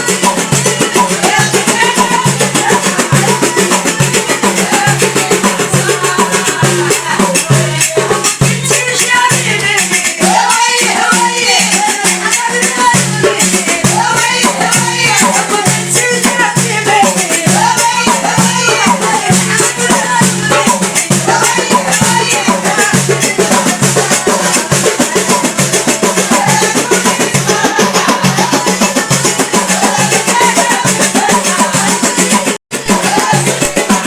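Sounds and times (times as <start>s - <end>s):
rattling shaker: 0.0s - 34.0s
steady drum beat: 0.0s - 34.0s
woman singing: 0.0s - 34.0s.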